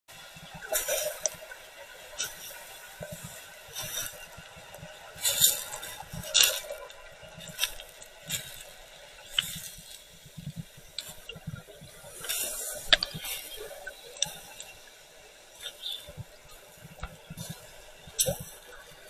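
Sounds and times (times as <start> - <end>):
underwater splashing and bubbling: 0.1 - 19.0.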